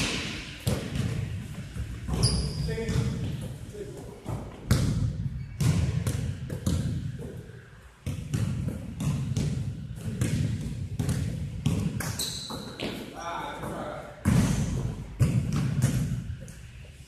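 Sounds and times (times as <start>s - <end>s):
basketball bouncing on gym floor: 0.0s - 3.6s, 4.2s - 7.4s, 8.0s - 16.6s.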